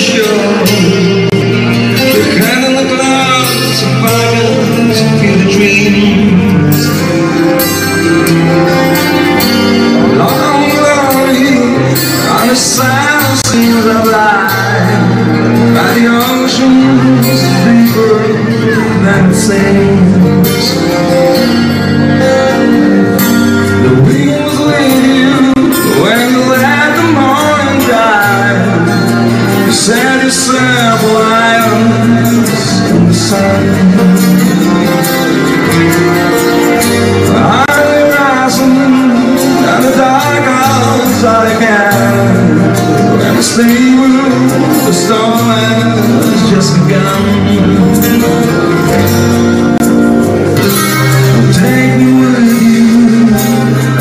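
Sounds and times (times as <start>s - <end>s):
acoustic guitars playing: 0.0s - 54.0s
man singing: 0.0s - 54.0s.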